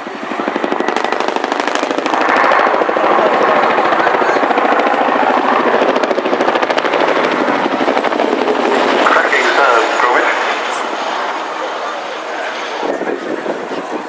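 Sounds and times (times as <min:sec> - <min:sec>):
helicopter blades chopping: 0:00.0 - 0:14.0.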